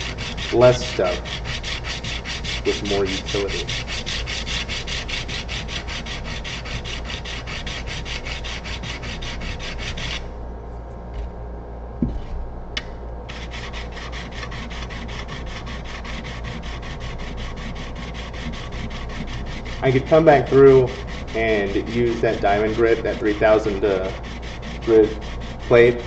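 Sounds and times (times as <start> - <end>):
chisel rubbing on sharpening stone: 0.0 - 10.2, 13.3 - 26.0.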